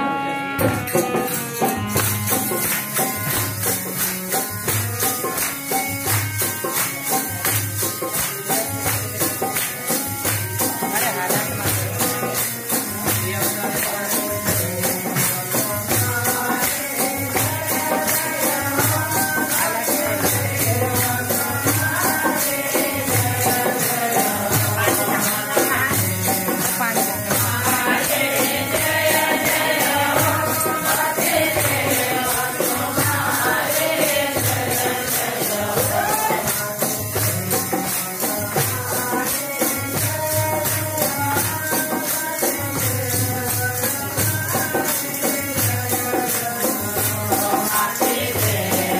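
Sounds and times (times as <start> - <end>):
group singing devotional melody: 0.0 - 48.9
jingling metal hand percussion: 0.0 - 48.9
drum strokes: 0.6 - 48.9.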